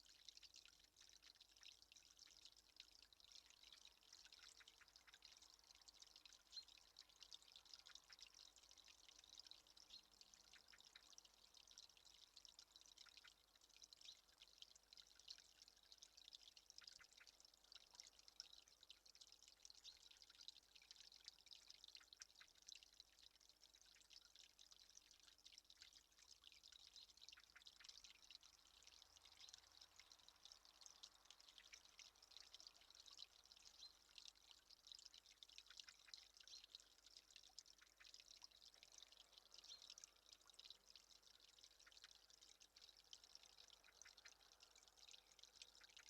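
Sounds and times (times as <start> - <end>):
faint water trickling and dripping: 0.0 - 46.0.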